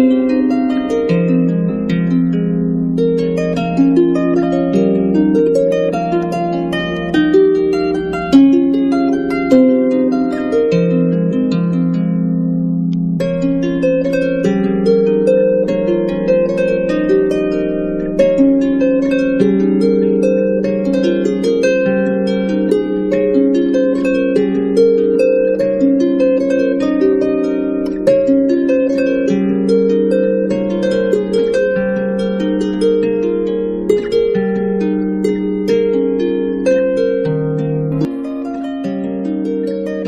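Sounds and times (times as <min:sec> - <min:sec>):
harp-like plucked string music: 0:00.0 - 0:40.0.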